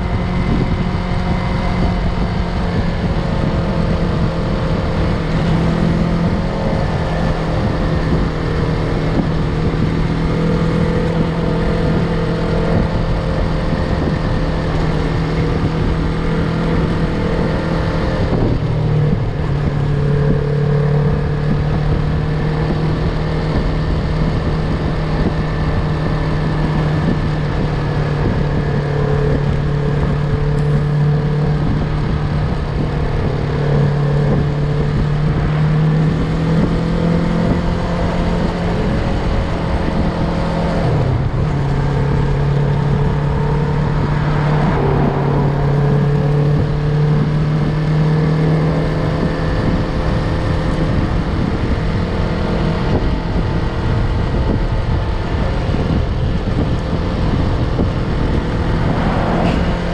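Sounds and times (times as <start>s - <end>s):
motorcycle engine cruising: 0.0s - 59.9s
wind rush: 0.0s - 59.9s.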